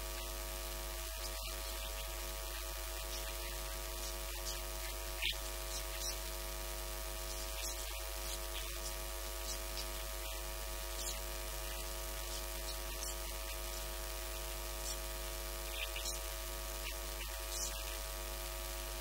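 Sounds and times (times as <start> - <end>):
electrical mains hum and buzz: 0.0 - 19.0.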